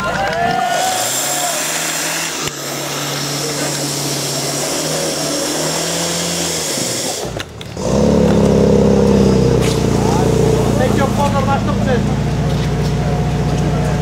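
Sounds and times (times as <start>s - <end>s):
pump engine running: 0.6s - 14.0s.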